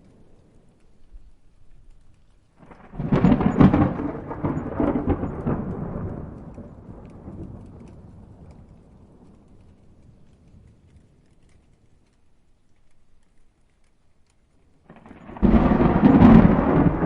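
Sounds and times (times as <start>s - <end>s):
thunder crackling and rumbling: 0.0s - 12.6s, 14.8s - 17.0s
faint rain: 0.0s - 17.0s.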